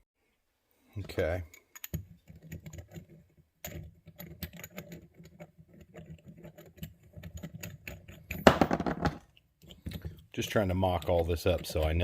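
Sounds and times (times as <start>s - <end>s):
metal fittings clicking and clinking: 1.0s - 8.6s, 9.3s - 12.0s.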